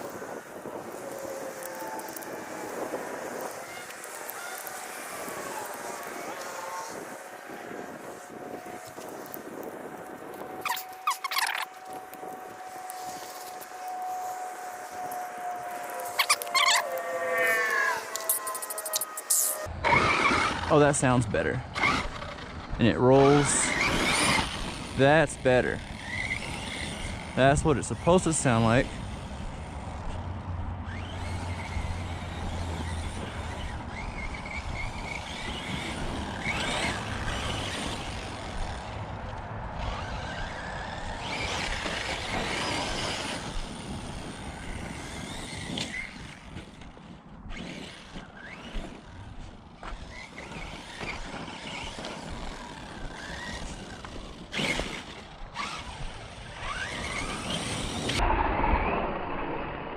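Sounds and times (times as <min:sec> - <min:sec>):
electric motor whining: 0:00.0 - 0:58.4.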